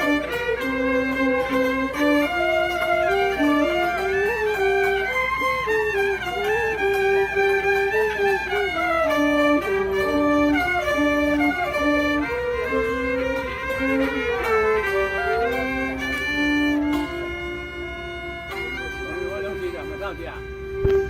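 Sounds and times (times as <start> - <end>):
two-string fiddle melody: 0.0 - 21.0.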